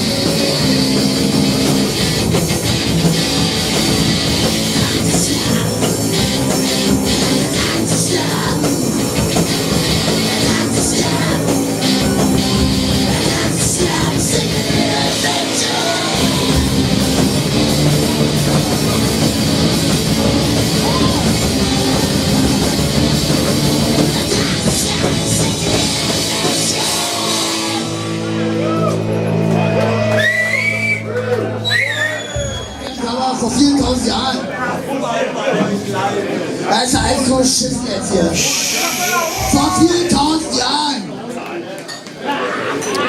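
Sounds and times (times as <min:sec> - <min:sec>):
rock band playing live: 0:00.0 - 0:34.5, 0:36.6 - 0:41.2.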